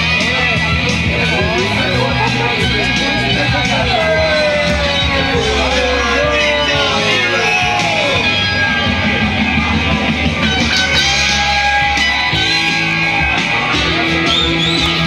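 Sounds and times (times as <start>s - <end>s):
loud guitar music: 0.0s - 15.0s.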